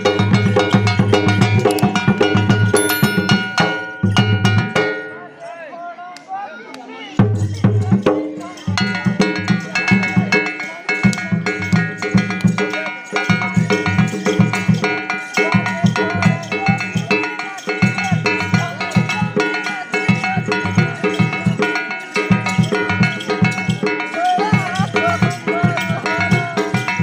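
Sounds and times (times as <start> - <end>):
drums in fast rhythm: 0.0 - 5.3, 7.2 - 27.0
ringing metal percussion: 0.0 - 5.7, 7.2 - 27.0.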